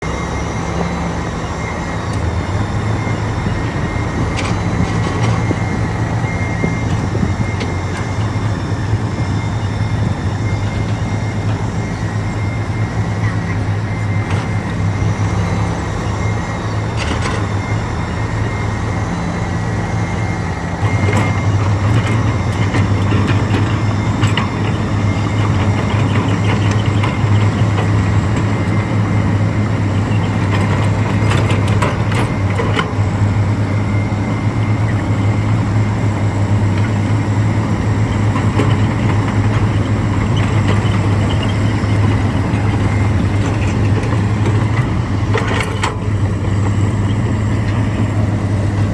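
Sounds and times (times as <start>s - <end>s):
bulldozer diesel engine: 0.0s - 48.9s
clanks and rattles of tracks: 0.0s - 48.9s.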